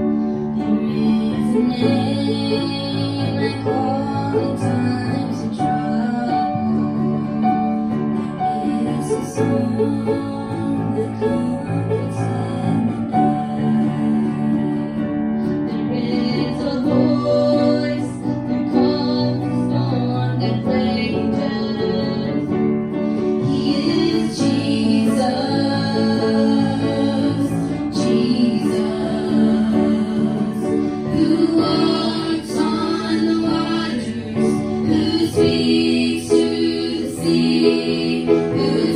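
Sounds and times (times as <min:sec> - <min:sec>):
girls and woman singing: 0:00.0 - 0:22.6, 0:23.3 - 0:38.9
instrumental accompaniment: 0:00.0 - 0:38.9.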